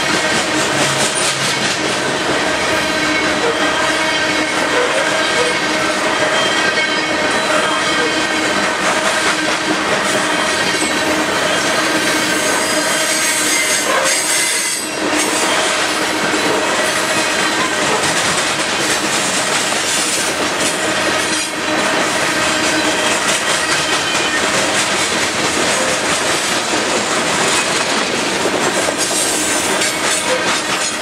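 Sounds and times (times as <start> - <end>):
freight train wheels clattering: 0.0 - 31.0.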